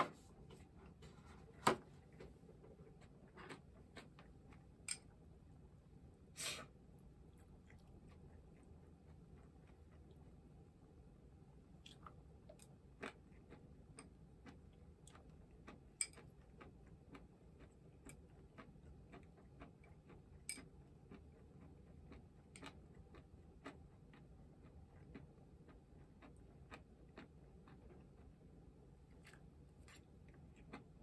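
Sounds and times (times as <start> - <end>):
chewing: 2.0 - 5.1, 7.3 - 10.4, 11.8 - 31.0.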